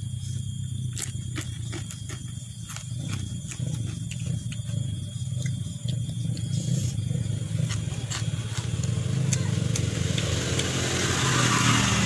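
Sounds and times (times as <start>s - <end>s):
chewing and crunching: 0.0s - 10.8s.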